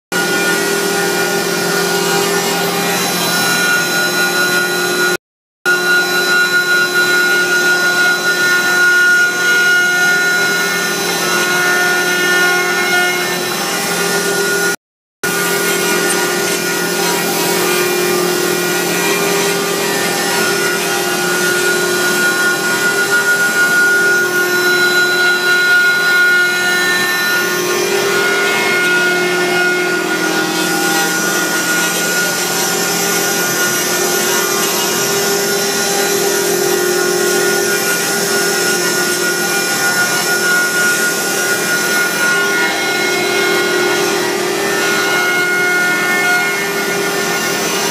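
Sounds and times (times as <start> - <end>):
router spindles whining: 0.2 - 47.9
carving bits rasping through wood: 7.4 - 47.9.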